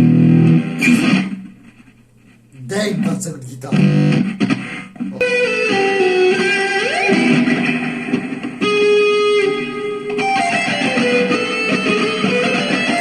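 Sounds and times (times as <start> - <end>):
electric guitar solo: 0.0 - 1.4, 3.7 - 13.0.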